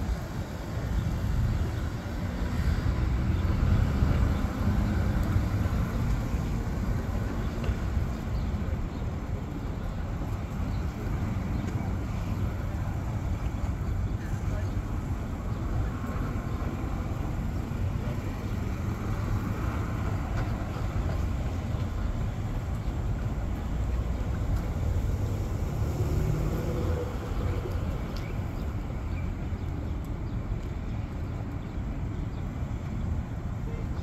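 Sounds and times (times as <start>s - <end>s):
distant traffic: 0.0s - 34.0s.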